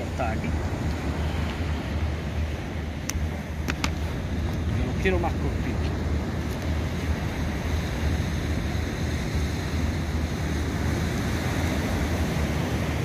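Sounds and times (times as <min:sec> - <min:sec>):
sea surf on a beach: 0:00.0 - 0:13.0
wind rumbling on microphone: 0:00.0 - 0:13.0.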